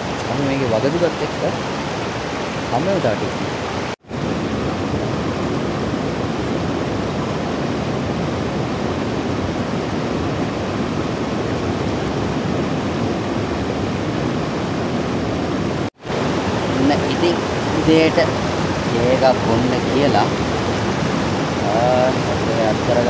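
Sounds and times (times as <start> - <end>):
stream rushing over stones: 0.0 - 23.0.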